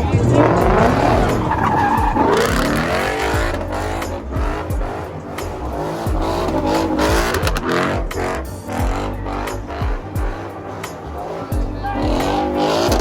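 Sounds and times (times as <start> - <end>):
car revving hard: 0.0 - 13.0
sharp exhaust pops: 0.0 - 13.0
tyres squealing: 0.0 - 13.0.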